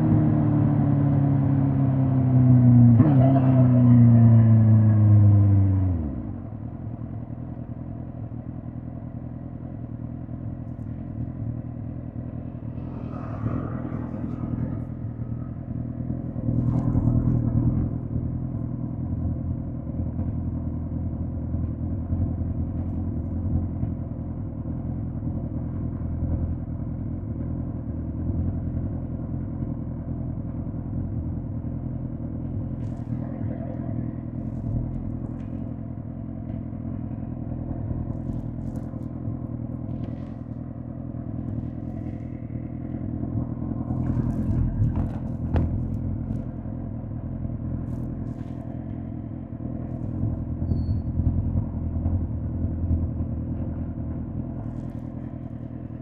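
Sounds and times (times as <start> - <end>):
motorcycle engine running steadily: 0.0 - 12.9, 14.2 - 56.0.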